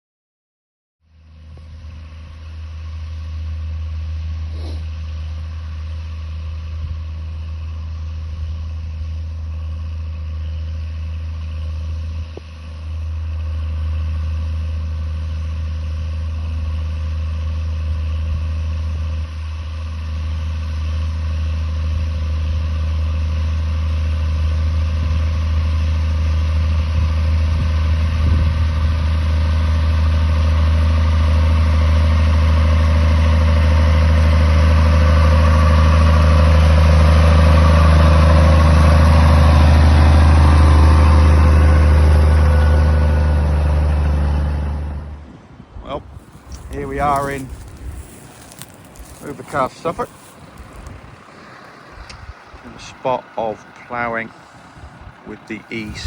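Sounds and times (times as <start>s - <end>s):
tractor engine running under load: 1.1s - 56.0s.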